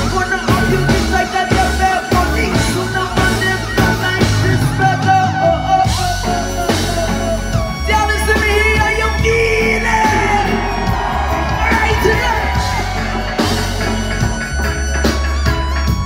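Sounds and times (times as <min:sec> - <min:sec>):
live reggae rock band: 0:00.0 - 0:16.0.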